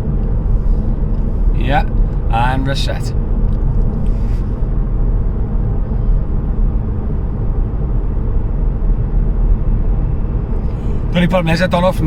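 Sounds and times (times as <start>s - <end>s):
car interior road and engine rumble: 0.0s - 12.0s.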